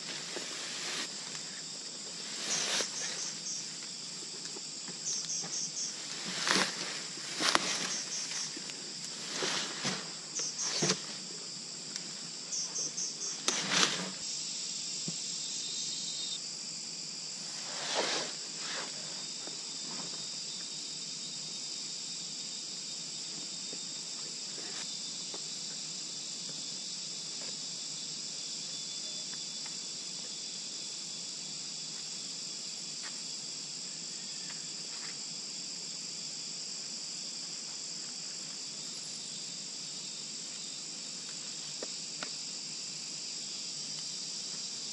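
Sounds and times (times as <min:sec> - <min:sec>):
insects chorus: 0:00.0 - 0:44.9.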